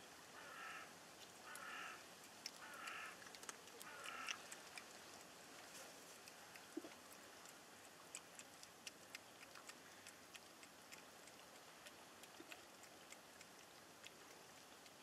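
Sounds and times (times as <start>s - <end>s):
low hiss: 0.0s - 15.0s
cat crunching dry food: 2.3s - 15.0s.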